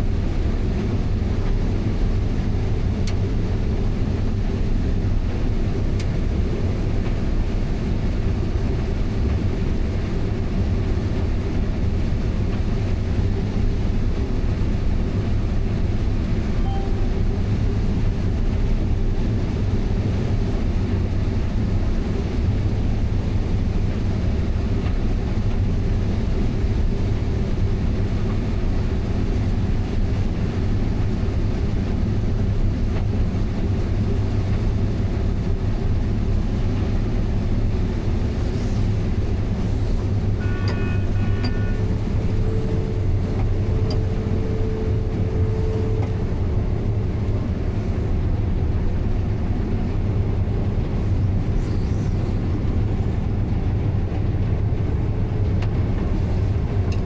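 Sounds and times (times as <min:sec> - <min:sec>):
heavy vehicle engine drone: 0:00.0 - 0:57.0.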